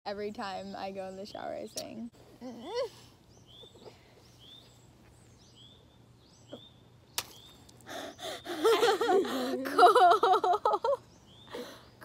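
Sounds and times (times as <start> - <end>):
bird chirping: 0.1 - 9.2, 10.2 - 12.0.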